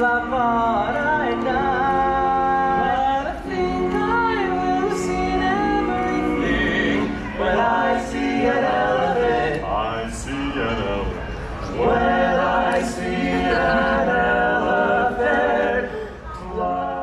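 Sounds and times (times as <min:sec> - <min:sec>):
male quartet singing a cappella: 0:00.0 - 0:17.0.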